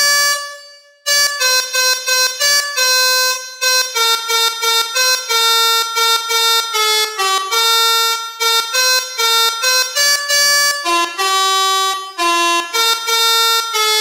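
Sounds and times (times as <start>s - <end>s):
melodica playing bus horn melody: 0.0s - 14.0s.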